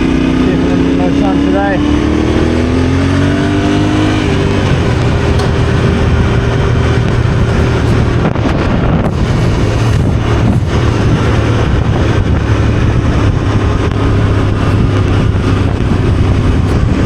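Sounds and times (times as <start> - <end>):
motorcycle engine running: 0.0 - 17.0
wind rush over microphone: 0.0 - 17.0.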